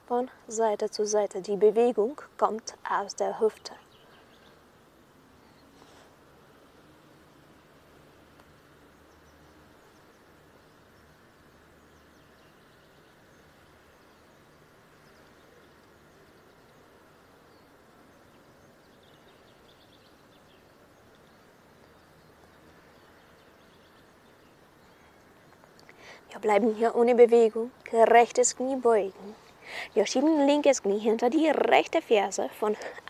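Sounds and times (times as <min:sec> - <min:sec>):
steady outdoor hiss: 0:00.0 - 0:33.0
faint bird chirps: 0:00.3 - 0:06.2, 0:08.4 - 0:33.0.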